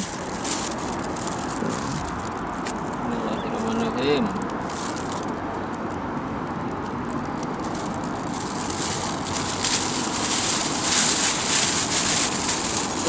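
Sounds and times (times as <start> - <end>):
plastic bag crinkling: 0.0 - 13.0
steady background noise: 0.0 - 13.0.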